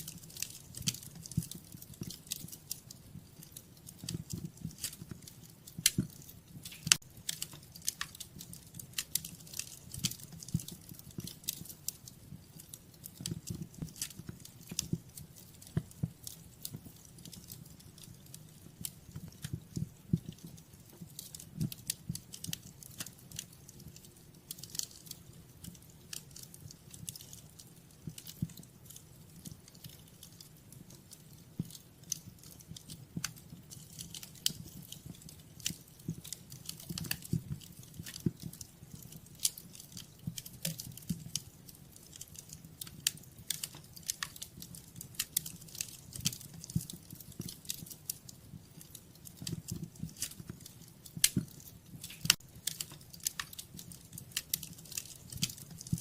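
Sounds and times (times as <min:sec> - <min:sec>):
low rumble of burning logs: 0:00.0 - 0:56.0
wood fire crackling: 0:00.0 - 0:56.0.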